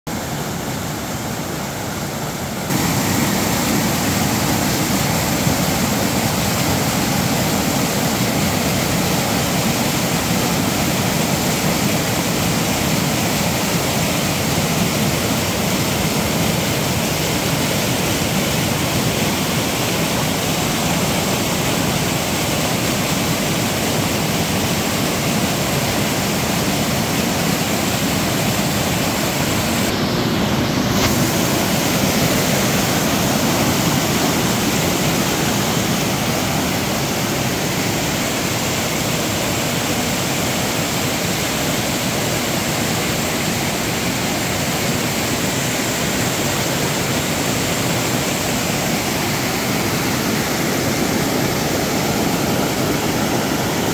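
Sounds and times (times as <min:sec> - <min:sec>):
waterfall rushing over rocks: 0:00.1 - 0:53.9.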